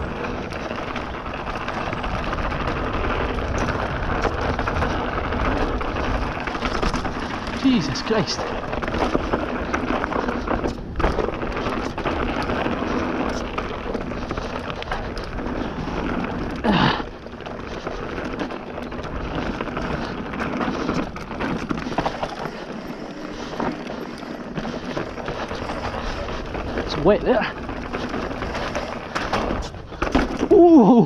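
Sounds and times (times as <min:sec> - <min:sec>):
bike frame rattling and knocking: 0:00.0 - 0:31.0
bike tyres rolling over dirt: 0:00.0 - 0:31.0.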